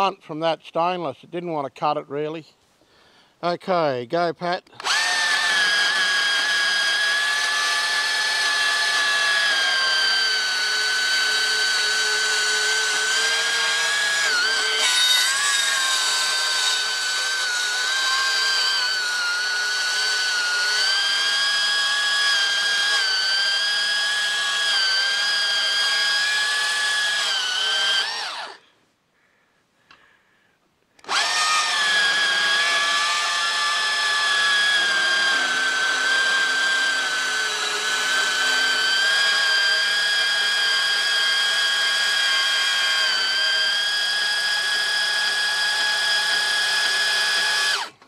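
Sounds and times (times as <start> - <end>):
bandsaw whining: 4.8 - 28.7, 31.0 - 48.0.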